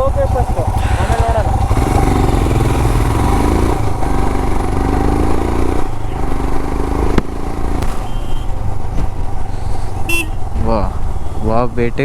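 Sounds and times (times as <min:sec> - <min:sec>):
motorcycle engine under throttle: 0:00.0 - 0:11.6.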